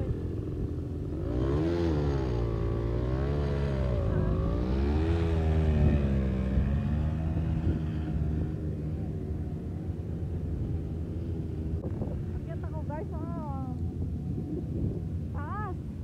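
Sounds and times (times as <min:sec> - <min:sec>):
quad bike engine revving: 0:00.0 - 0:13.6.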